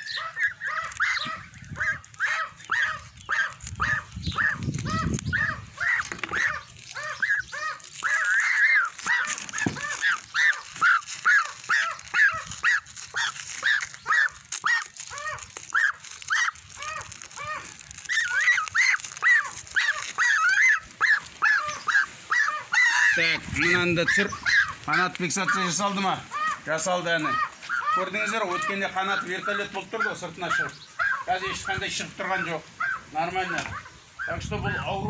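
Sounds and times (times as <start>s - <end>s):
gosling peeping: 0.0s - 35.0s.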